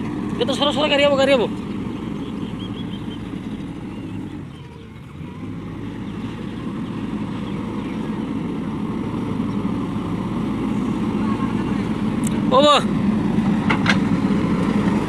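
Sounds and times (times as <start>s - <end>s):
diesel machinery engine running: 0.0s - 15.0s.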